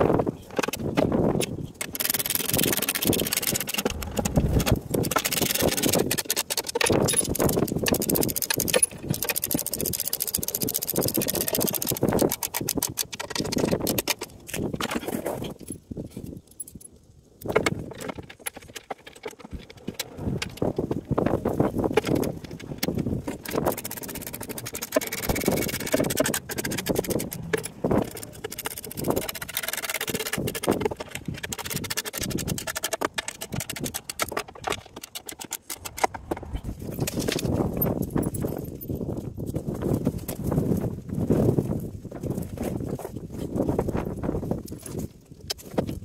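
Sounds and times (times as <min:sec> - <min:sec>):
metal bolts clinking and clicking: 0:00.5 - 0:20.6, 0:21.9 - 0:39.2.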